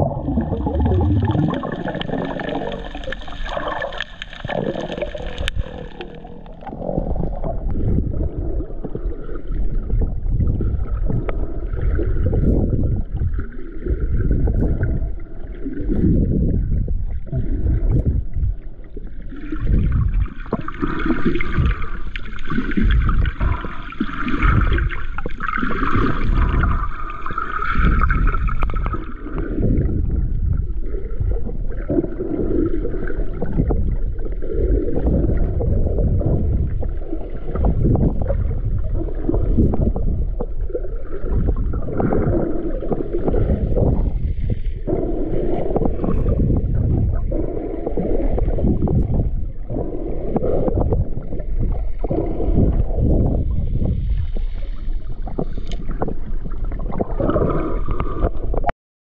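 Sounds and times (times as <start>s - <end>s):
underwater churning and sloshing: 0.0s - 58.7s.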